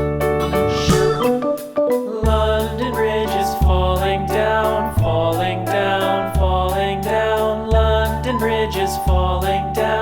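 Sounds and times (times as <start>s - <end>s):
upbeat music with bass: 0.0s - 10.0s.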